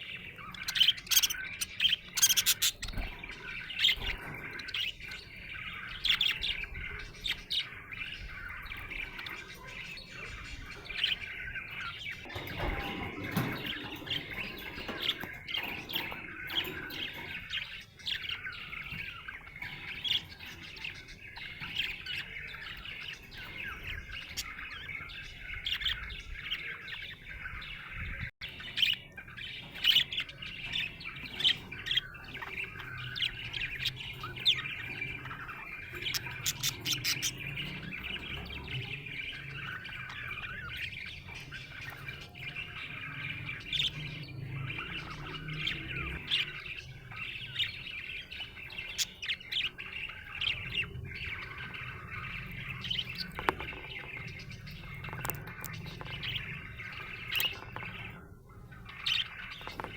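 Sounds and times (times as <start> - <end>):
bird squawks: 0.0 - 27.9, 28.5 - 59.9
budgerigars chirping: 0.0 - 59.9.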